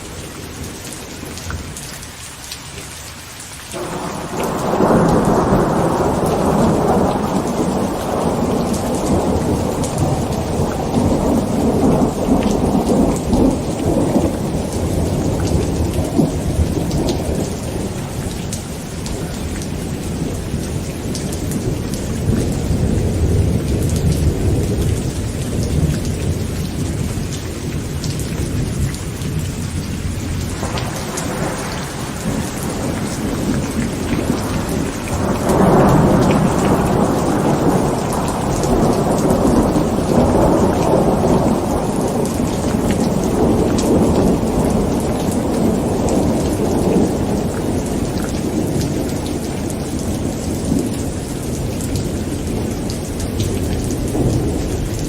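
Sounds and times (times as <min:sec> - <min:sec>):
heavy rain on a tent: 0:00.0 - 0:55.0
thunder rumbling: 0:03.8 - 0:55.0.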